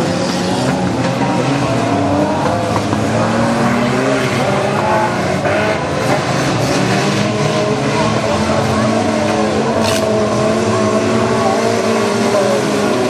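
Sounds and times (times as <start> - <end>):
racing car engines revving: 0.0 - 13.0.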